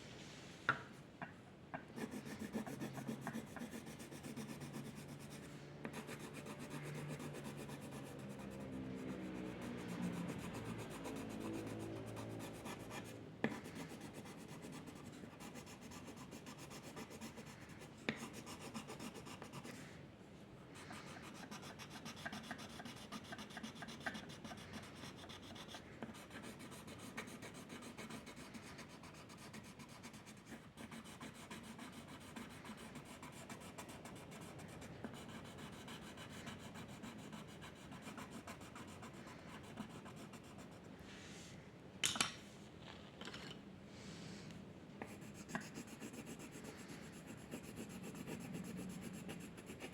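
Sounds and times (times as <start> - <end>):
drawing tool scratching paper: 2.0 - 19.8, 20.8 - 40.9, 45.1 - 49.9.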